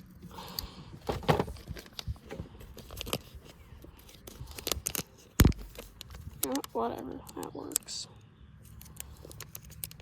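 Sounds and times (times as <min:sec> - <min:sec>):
fishing tackle clicking and rustling: 0:00.0 - 0:10.0.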